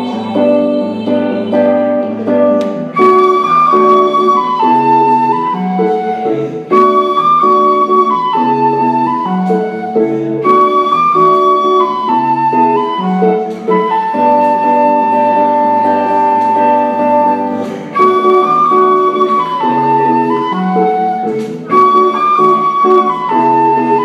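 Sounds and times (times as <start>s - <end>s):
flute melody: 0.0s - 24.0s
guitar chords: 0.0s - 24.0s.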